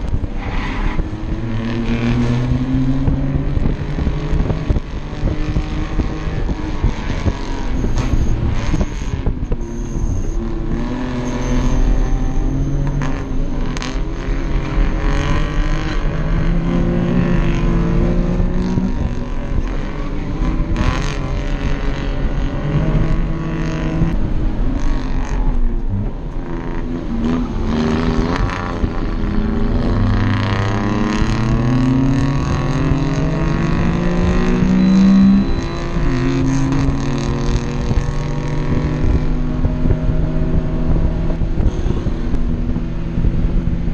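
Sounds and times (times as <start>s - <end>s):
road and wind noise: 0.0s - 43.9s
small car engine revving: 0.0s - 43.9s.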